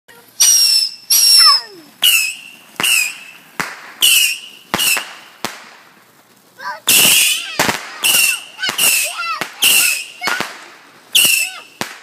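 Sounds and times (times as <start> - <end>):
fireworks bangs: 0.1 - 12.0
high-pitched firework whistle: 0.4 - 5.5, 6.8 - 10.5, 11.1 - 12.0.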